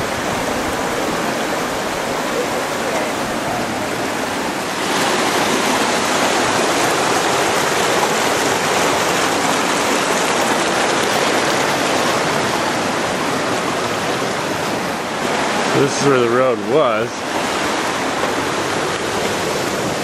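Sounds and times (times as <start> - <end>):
creek rushing over rocks: 0.0 - 20.0.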